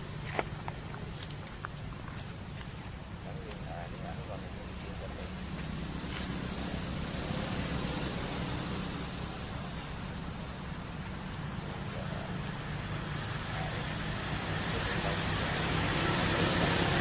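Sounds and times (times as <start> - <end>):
low motor hum: 0.0 - 17.0
high-pitched whine: 3.0 - 17.0.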